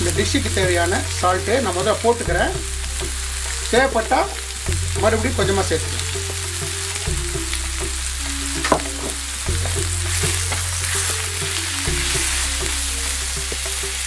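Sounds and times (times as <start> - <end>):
food sizzling in oil: 0.0 - 14.0
soft background music: 0.0 - 14.0.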